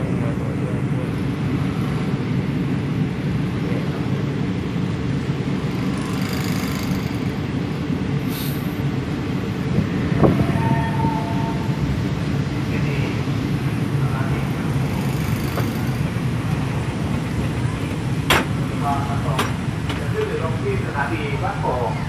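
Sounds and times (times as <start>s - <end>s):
train coach rumbling on rails: 0.0s - 22.0s.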